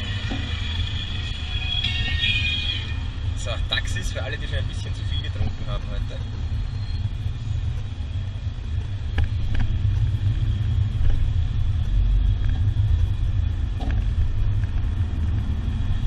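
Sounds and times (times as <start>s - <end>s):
car driving rumble inside cabin: 0.0s - 16.0s.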